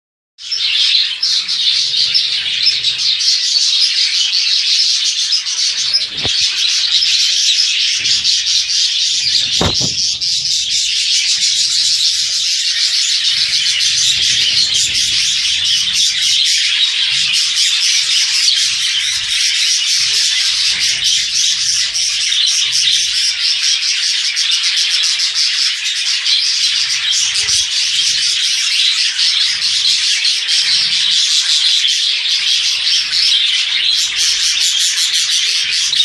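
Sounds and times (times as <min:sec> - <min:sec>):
cage birds chirping: 0:00.4 - 0:36.0.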